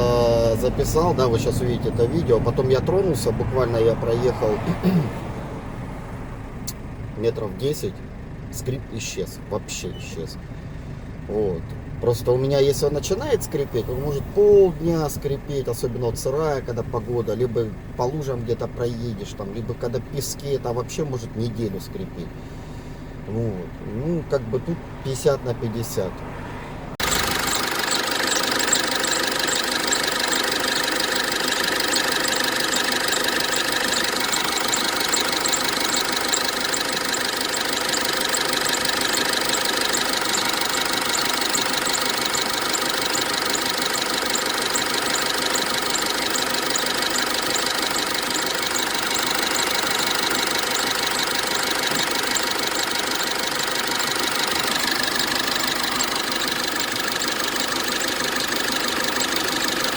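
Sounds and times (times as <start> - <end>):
drive belt squeaking: 0.0 - 5.4, 6.7 - 26.4, 27.0 - 59.9
diesel engine idling: 0.0 - 59.9.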